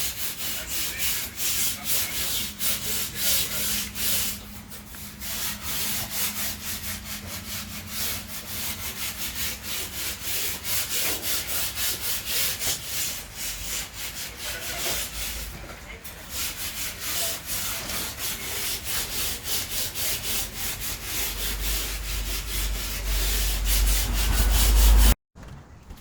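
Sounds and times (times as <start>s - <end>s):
hand sanding rasp: 0.0s - 25.2s.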